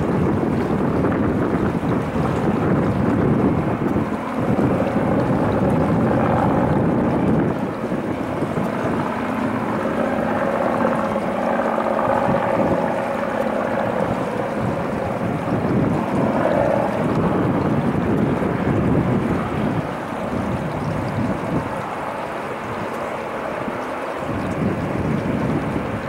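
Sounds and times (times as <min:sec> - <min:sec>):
jet engines idling: 0:00.0 - 0:26.0
wind on microphone: 0:00.0 - 0:26.0.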